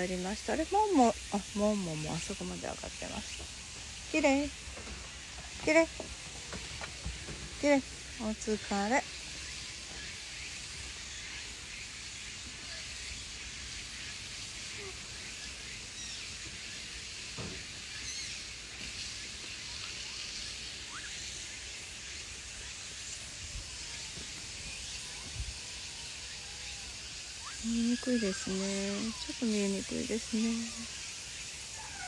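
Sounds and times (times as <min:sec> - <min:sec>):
outdoor ambience hiss: 0:00.0 - 0:32.0.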